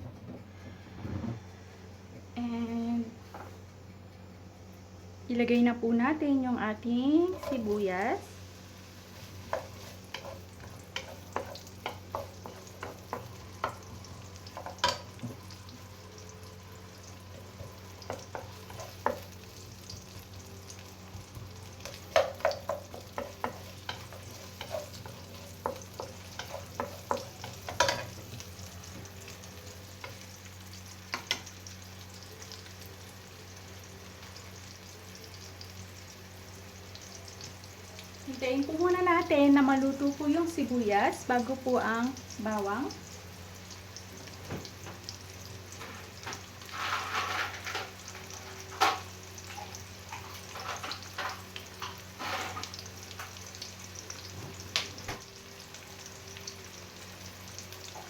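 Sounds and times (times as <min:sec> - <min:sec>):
onion sizzling in oil: 0:04.5 - 0:58.0.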